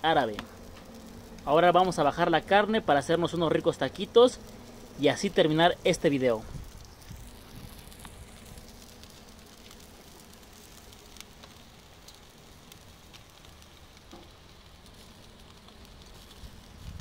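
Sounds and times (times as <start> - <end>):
fire crackling pops: 0.0 - 17.0
meat sizzling: 0.0 - 17.0.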